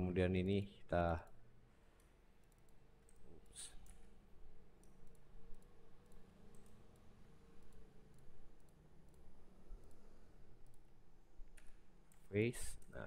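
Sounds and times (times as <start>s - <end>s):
low steady hum: 0.0s - 13.0s
computer mouse clicks: 1.9s - 13.0s.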